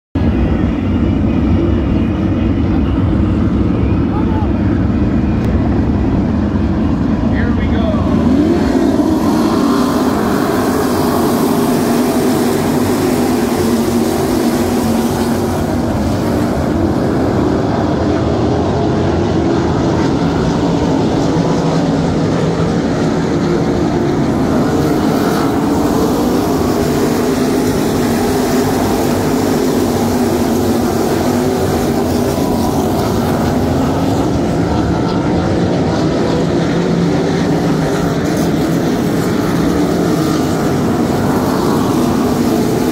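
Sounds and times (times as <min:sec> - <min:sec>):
many race car engines droning: 0:00.2 - 0:42.9.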